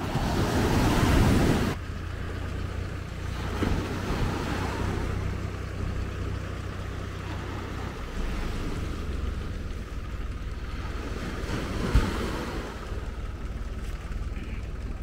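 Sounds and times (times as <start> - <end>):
surf washing on beach: 0.0 - 1.8, 3.3 - 15.0
low steady rumble: 0.0 - 15.0.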